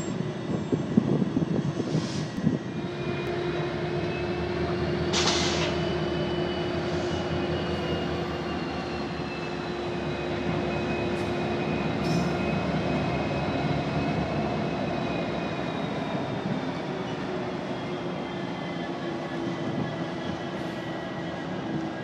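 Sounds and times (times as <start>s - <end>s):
diesel locomotive running: 0.0s - 22.0s.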